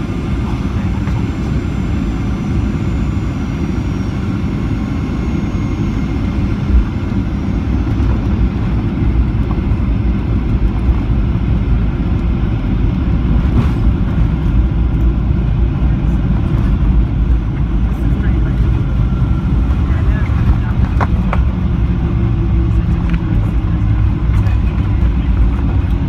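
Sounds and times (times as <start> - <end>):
airplane cabin engine rush: 0.0 - 26.0.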